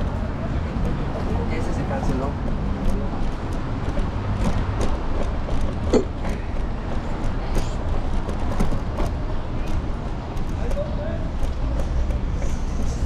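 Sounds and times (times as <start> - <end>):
road and traffic rumble: 0.0 - 13.0.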